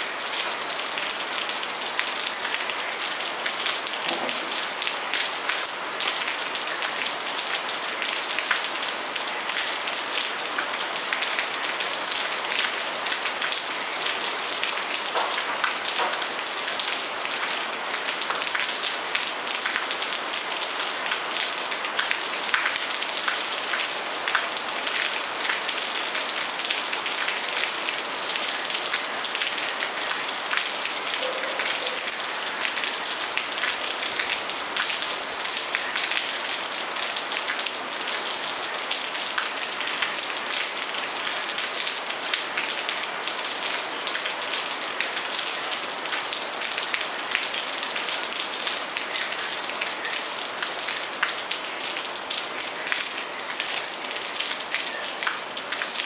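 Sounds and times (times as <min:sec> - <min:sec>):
rain pattering on patio deck: 0:00.0 - 0:56.0.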